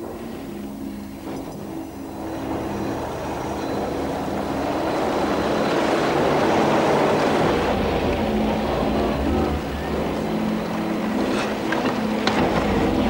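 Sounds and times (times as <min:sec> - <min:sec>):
speedboat engine: 0:00.0 - 0:13.0.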